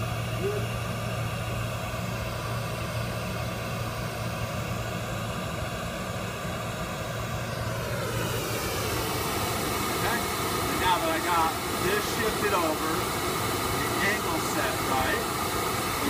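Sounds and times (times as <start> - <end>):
test noise hiss from speakers: 0.0 - 16.0.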